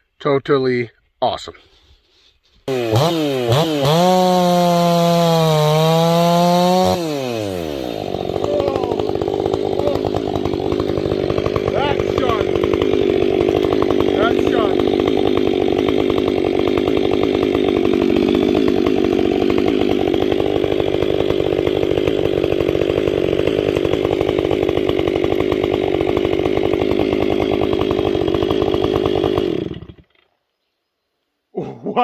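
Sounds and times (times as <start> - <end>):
chainsaw cutting log: 2.6 - 30.3.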